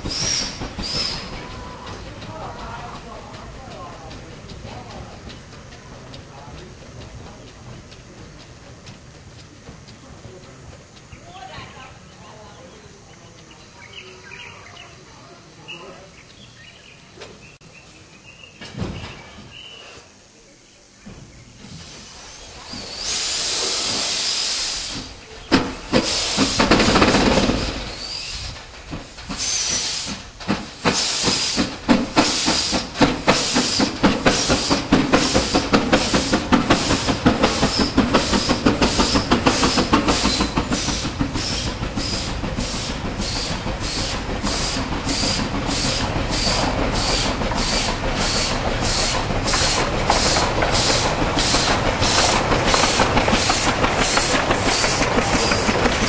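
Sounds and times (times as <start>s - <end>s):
steam hissing: 0.0s - 17.6s, 18.6s - 56.0s
steam locomotive exhaust beats: 0.0s - 17.6s, 18.9s - 56.0s.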